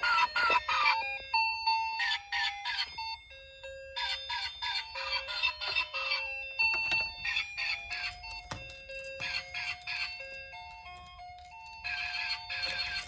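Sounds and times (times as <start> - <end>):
tinkly electronic tune: 0.0 - 13.0.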